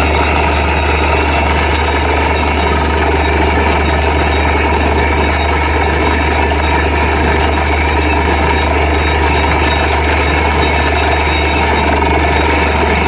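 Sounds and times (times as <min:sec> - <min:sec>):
drilling rig engine droning: 0:00.0 - 0:13.0.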